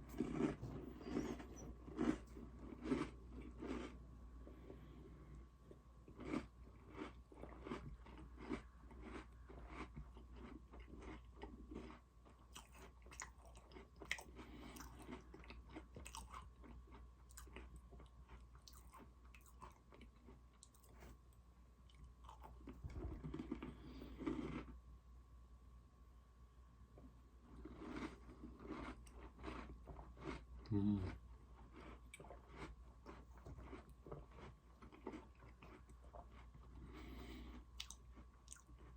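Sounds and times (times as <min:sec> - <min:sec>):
crunching cookies: 0:00.0 - 0:21.2, 0:21.8 - 0:24.8, 0:27.4 - 0:38.9.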